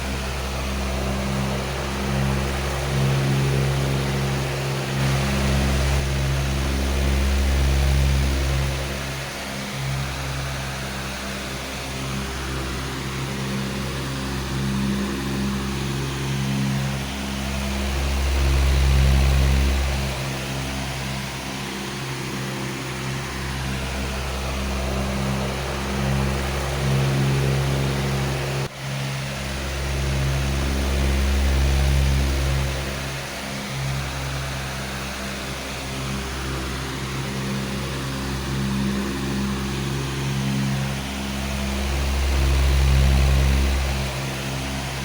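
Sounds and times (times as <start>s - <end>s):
electric fan running: 0.0s - 45.0s.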